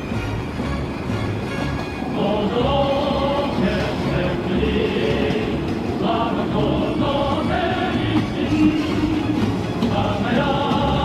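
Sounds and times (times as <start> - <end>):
electric train rumbling: 0.0 - 11.0
rail clatter: 0.0 - 11.0
faint sung melody: 2.1 - 11.0.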